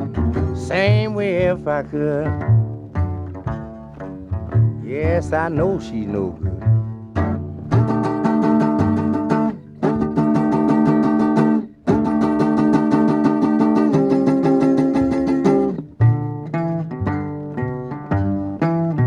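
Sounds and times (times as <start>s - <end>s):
strummed guitar: 0.0s - 19.0s.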